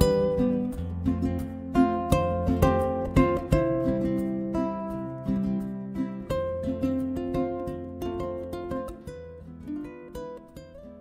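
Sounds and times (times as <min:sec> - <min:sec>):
plucked string instrument melody: 0:00.0 - 0:11.0.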